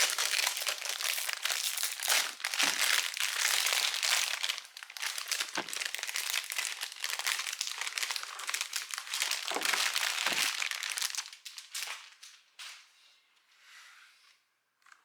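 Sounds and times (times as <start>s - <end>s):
packaging crinkling: 0.0s - 12.4s.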